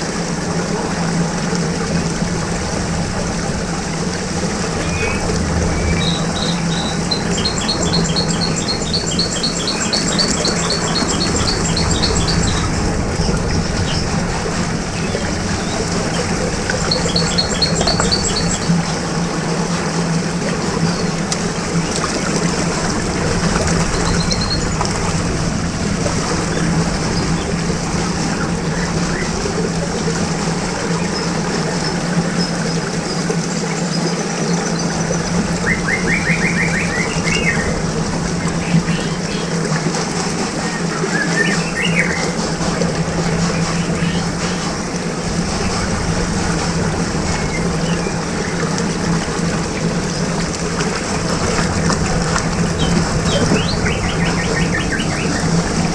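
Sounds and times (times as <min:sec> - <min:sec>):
churning water rushing: 0:00.0 - 0:55.9
steady low hum: 0:00.0 - 0:55.9
birds chirping: 0:01.7 - 0:55.9.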